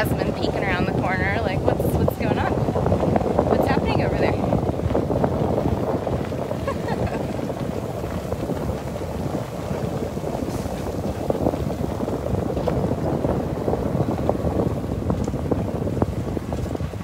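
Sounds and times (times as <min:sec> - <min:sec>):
utility cart rumbling on dirt path: 0:00.0 - 0:17.0
wind buffeting microphone: 0:00.0 - 0:17.0.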